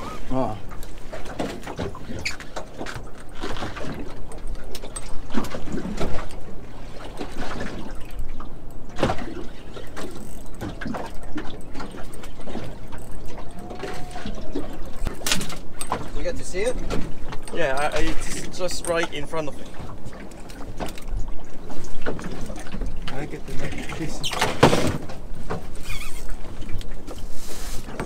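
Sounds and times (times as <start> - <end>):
water sloshing against hull: 0.0 - 28.0.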